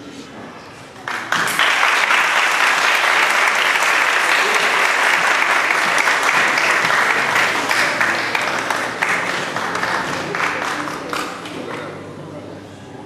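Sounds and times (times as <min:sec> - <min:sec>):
audience applauding: 0:01.0 - 0:11.9.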